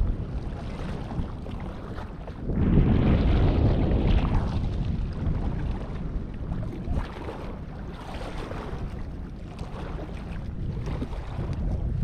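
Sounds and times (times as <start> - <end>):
water lapping against rocks: 0.0 - 12.0
wind buffeting microphone: 0.0 - 12.0.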